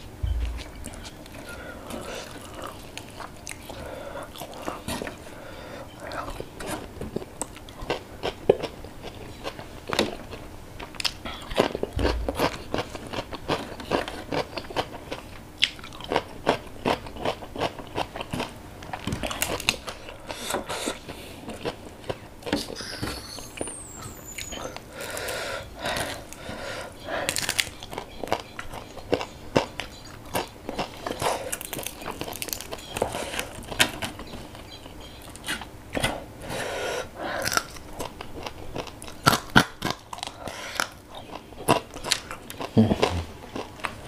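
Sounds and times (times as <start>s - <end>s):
chewing and crunching fried food: 0.1s - 22.8s, 23.6s - 44.0s.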